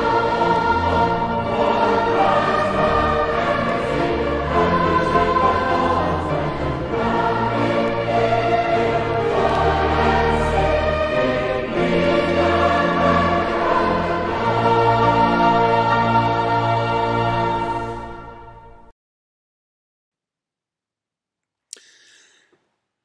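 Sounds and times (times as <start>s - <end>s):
choir singing a hymn: 0.0s - 18.8s.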